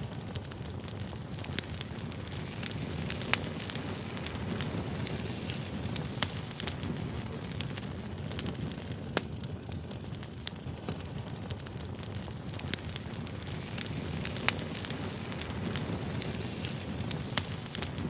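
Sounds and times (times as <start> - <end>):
fire rumbling and crackling: 0.0 - 18.0.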